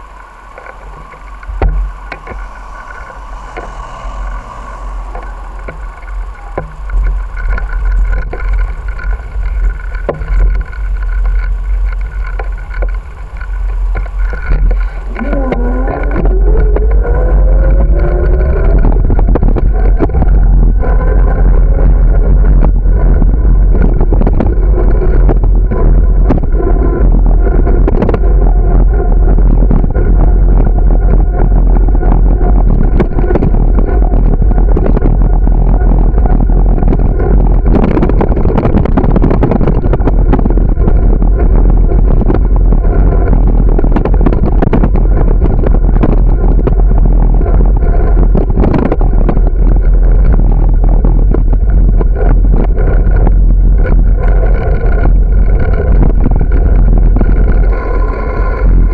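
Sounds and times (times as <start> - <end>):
rising whine: 0.0 - 58.9
wind buffeting microphone: 0.0 - 58.9
bicycle rattling on asphalt: 5.2 - 58.9.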